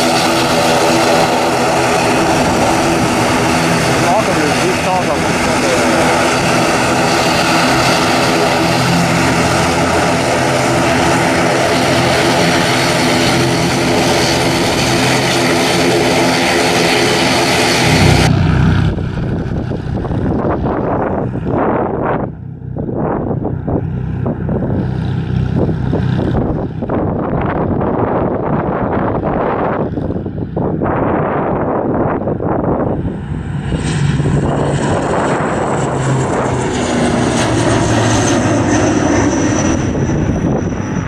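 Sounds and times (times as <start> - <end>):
turboprop engines droning: 0.0 - 41.0
wind buffeting microphone: 0.0 - 41.0.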